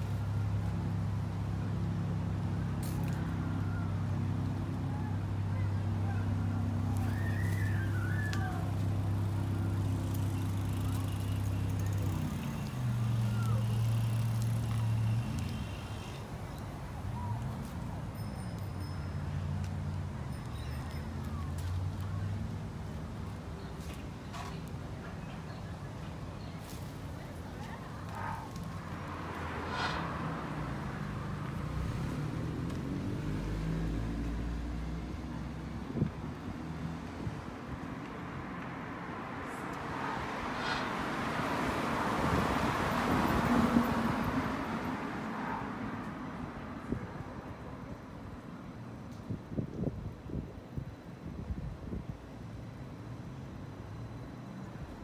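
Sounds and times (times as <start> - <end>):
car passing on street: 0.0 - 23.4, 26.6 - 48.4.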